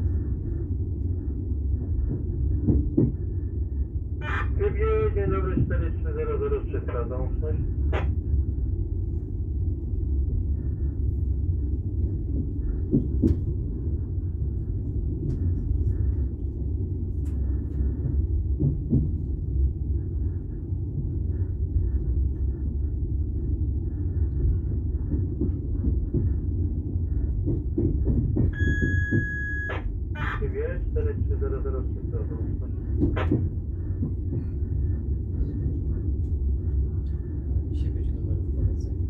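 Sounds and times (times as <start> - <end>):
train coach rumbling on track: 0.0 - 39.0.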